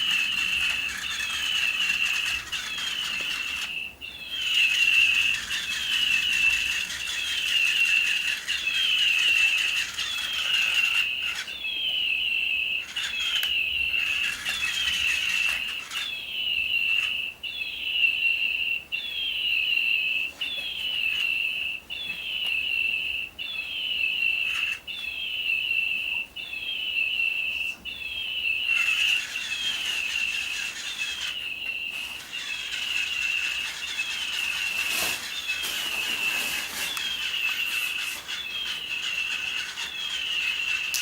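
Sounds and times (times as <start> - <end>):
electronic toy bird chirping: 0.0 - 41.0.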